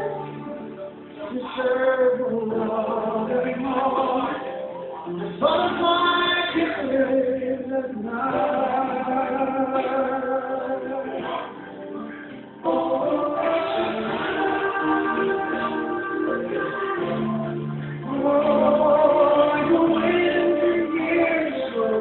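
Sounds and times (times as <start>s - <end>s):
song with sung vocal: 0.0s - 22.0s.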